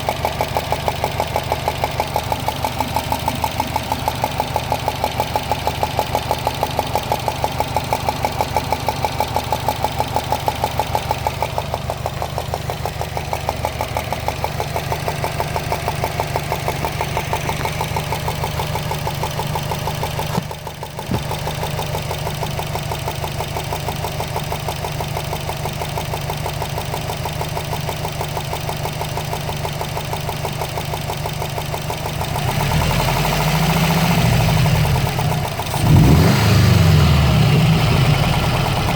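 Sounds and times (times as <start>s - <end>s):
car engine idling: 0.0s - 38.9s
rapid even ticking in engine: 0.0s - 38.9s.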